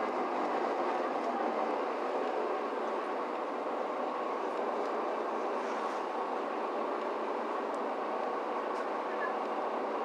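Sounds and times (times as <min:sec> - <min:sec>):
bus engine running: 0:00.0 - 0:10.0.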